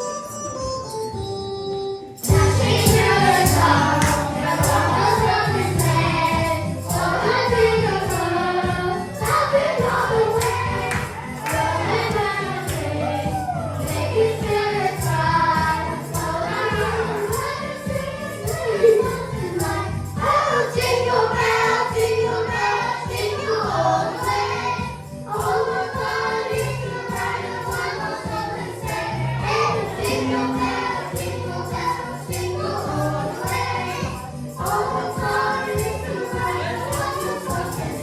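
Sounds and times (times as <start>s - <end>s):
choir singing: 2.2s - 38.0s
band music with steady beat: 2.3s - 38.0s.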